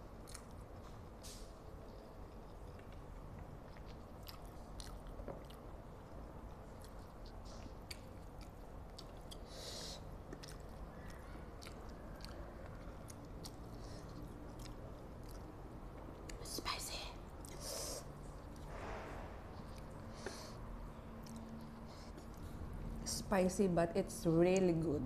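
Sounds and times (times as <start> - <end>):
person chewing noodles: 0.1 - 16.5, 17.3 - 18.7, 19.5 - 23.0.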